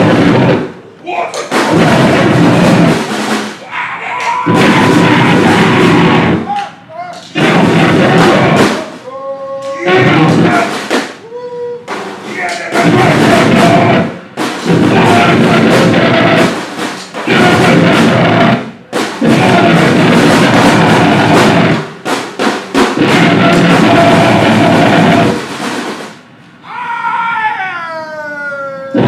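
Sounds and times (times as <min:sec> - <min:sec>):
distorted noise and drums: 0:00.0 - 0:09.1, 0:09.7 - 0:11.2, 0:11.8 - 0:26.6.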